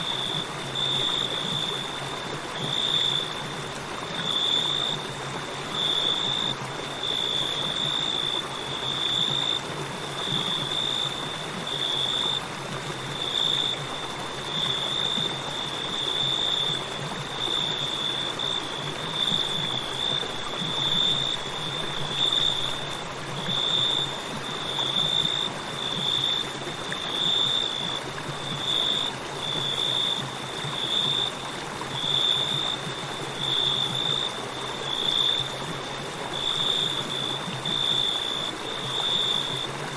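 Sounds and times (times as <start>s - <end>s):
crickets chirping: 0.0s - 39.9s
river water flowing: 0.0s - 39.9s.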